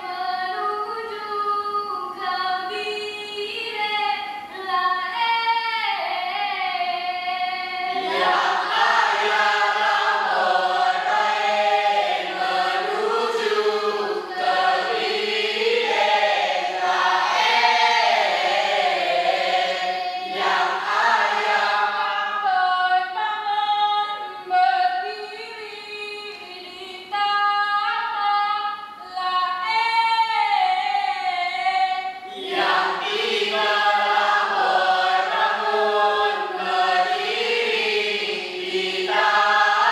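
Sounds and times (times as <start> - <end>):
female voices singing together: 0.0 - 39.9.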